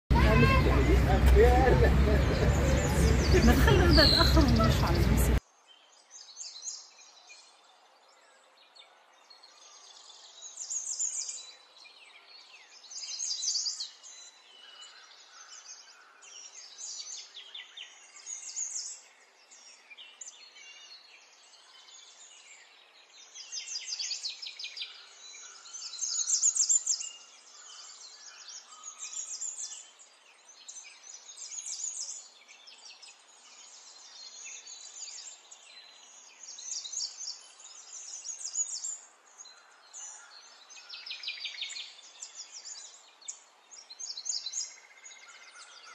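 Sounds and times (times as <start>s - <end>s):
birds chirping in rapid trills: 0.1s - 45.9s.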